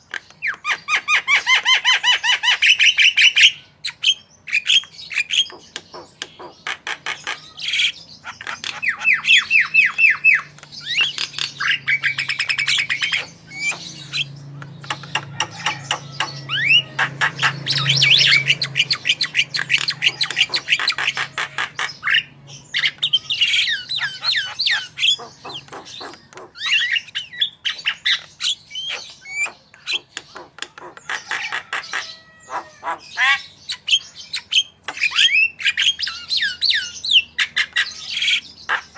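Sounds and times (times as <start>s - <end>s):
myna singing chirps and trills: 0.9s - 38.9s.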